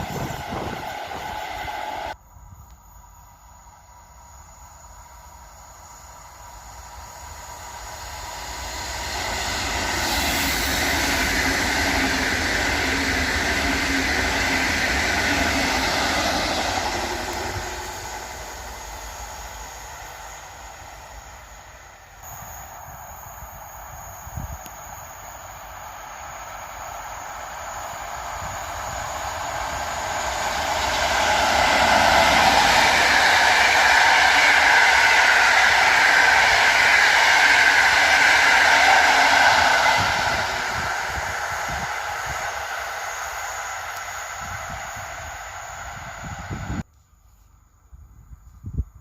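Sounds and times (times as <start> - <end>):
train passing: 0.0 - 46.9.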